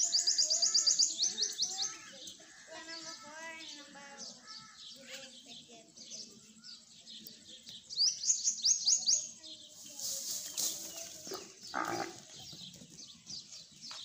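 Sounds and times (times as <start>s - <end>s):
outdoor farmyard background: 0.0s - 14.0s
small bird chirping: 0.0s - 14.0s.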